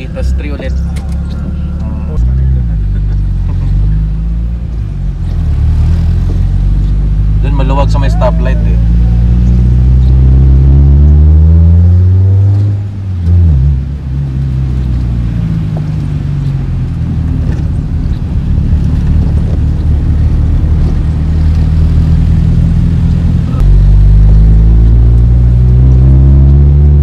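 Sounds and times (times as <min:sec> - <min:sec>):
car engine accelerating: 0:00.0 - 0:27.0
road noise: 0:00.0 - 0:27.0.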